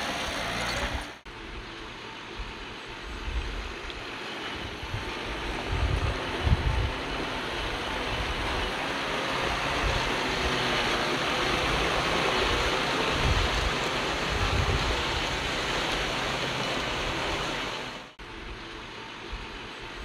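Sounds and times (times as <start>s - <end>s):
bulldozer diesel engine: 0.0s - 20.0s.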